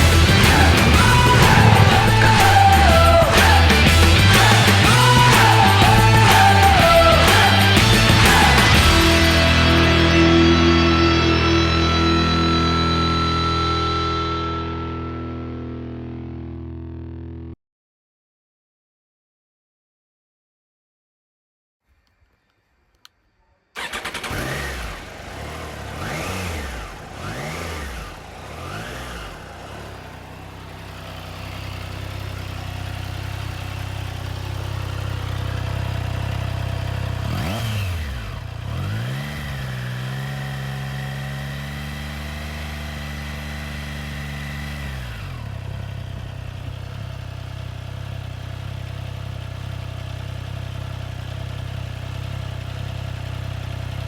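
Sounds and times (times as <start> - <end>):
motorcycle engine revving and idling: 0.0 - 14.6, 23.8 - 54.0.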